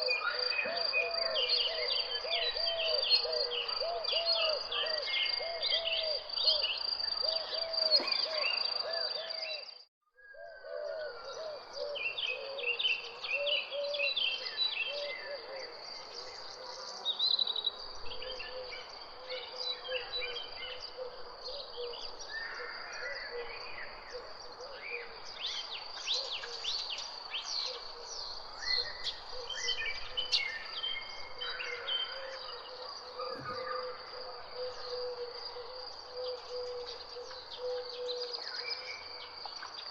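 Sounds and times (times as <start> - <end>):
birds chirping and singing: 0.0 - 39.9
low bird calls: 0.0 - 39.9.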